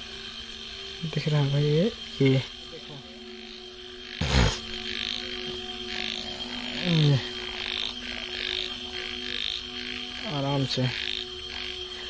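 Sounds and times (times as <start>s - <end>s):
frogs calling: 0.0s - 12.0s
steady hum: 0.0s - 12.0s.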